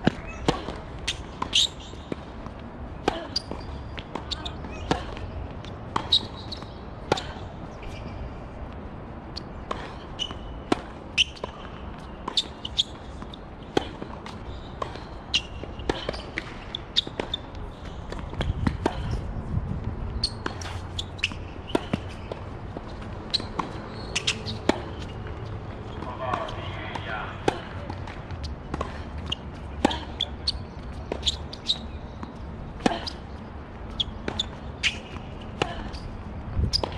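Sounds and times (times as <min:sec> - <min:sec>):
tennis balls struck by rackets: 0:00.0 - 0:08.0, 0:09.4 - 0:36.9
tennis balls bouncing on court: 0:00.0 - 0:36.9.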